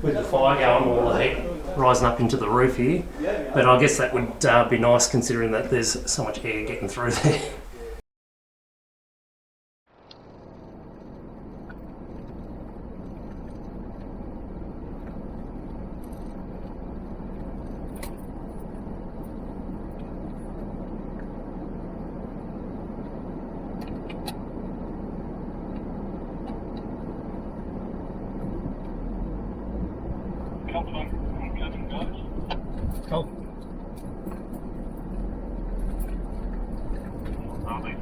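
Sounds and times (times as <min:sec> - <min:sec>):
vehicle engine and tyres rumbling: 0:00.0 - 0:07.9, 0:10.0 - 0:38.0.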